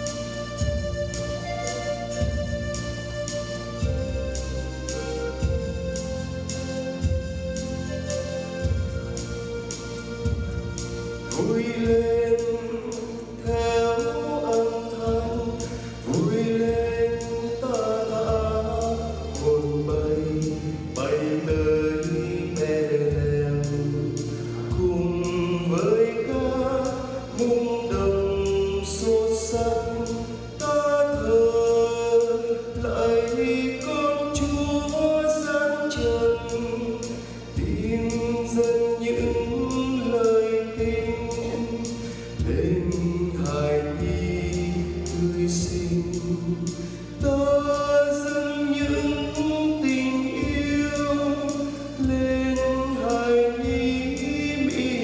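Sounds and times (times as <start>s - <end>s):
instrumental accompaniment with beat: 0.0s - 55.0s.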